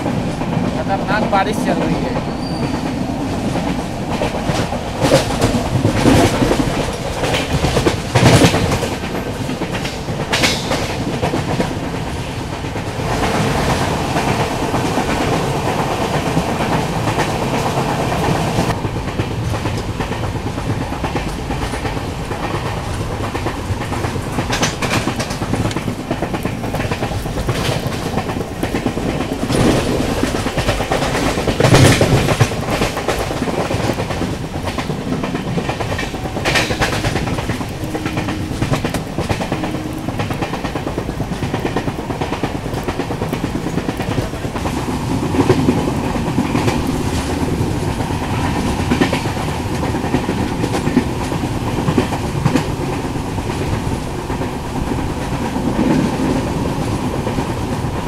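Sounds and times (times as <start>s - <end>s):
train coaches rumbling: 0.0s - 58.0s
wheels clacking over rails: 0.0s - 58.0s.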